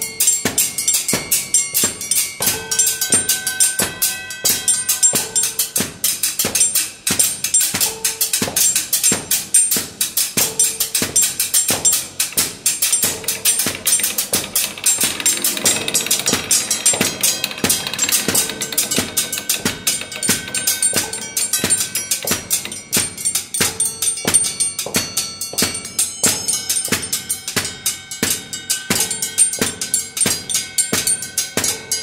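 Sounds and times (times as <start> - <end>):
rhythmic percussive music: 0.0 - 32.0.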